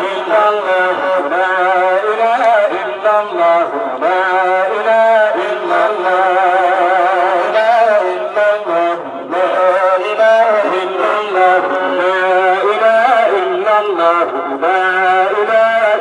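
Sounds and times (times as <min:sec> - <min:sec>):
men chanting into microphones: 0:00.0 - 0:16.0.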